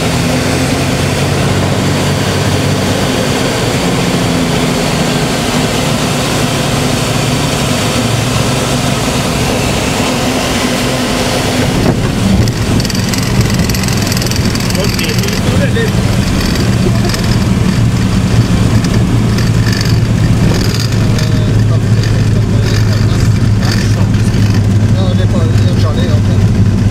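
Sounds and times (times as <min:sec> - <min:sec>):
rushing air: 0:00.0 - 0:25.0
propeller plane engine: 0:00.0 - 0:26.9
wheels bumping on runway: 0:00.0 - 0:26.9.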